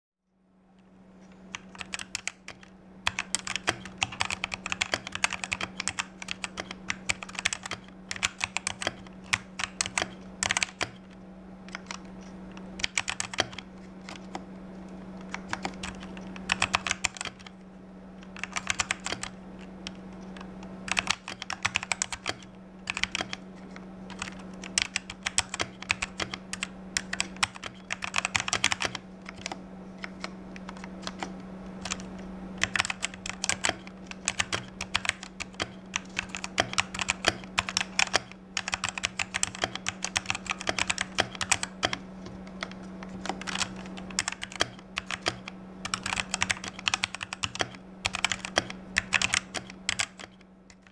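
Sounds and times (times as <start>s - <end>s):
steady low hum: 0.2s - 50.9s
mechanical keyboard typing: 1.5s - 14.4s, 15.2s - 17.6s, 18.3s - 50.9s.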